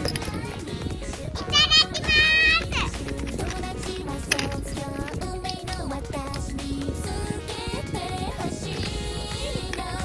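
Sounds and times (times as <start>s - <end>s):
background music with gliding melody: 0.0s - 10.0s.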